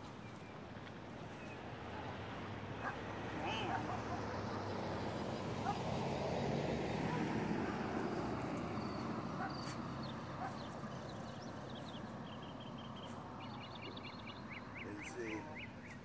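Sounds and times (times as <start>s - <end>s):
birds chirping: 0.0s - 6.2s, 6.8s - 16.0s.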